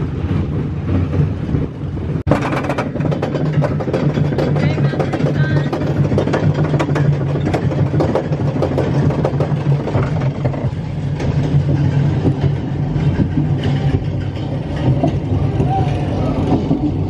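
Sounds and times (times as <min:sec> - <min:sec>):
ride car rattling and clacking: 0:00.0 - 0:17.0
ride mechanical hum: 0:00.0 - 0:17.0.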